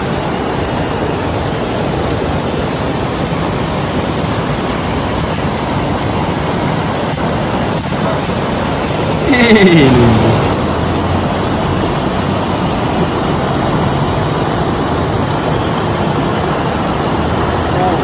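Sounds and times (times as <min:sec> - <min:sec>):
loud steady rushing noise: 0:00.0 - 0:18.0.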